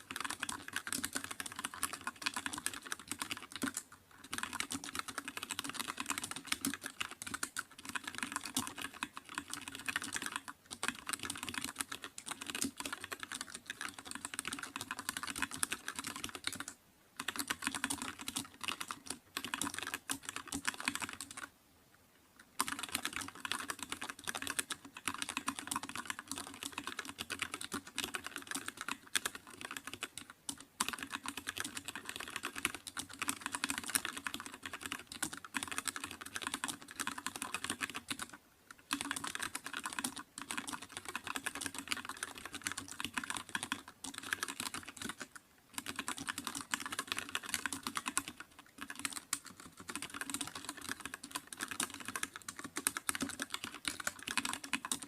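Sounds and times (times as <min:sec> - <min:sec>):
fast keyboard typing: 0:00.0 - 0:21.5, 0:22.5 - 0:55.0.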